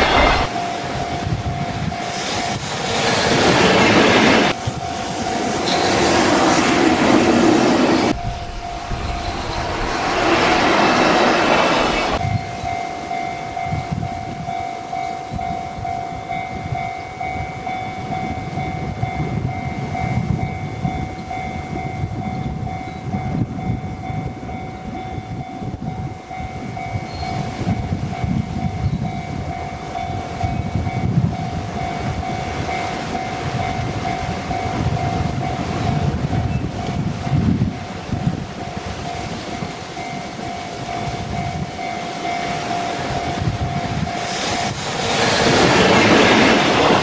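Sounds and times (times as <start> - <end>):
pulsing ringing tone: 0.0 - 2.8, 4.5 - 5.9, 8.1 - 44.8
freight train running past: 0.0 - 47.0
gusty wind buffeting microphone: 0.0 - 47.0.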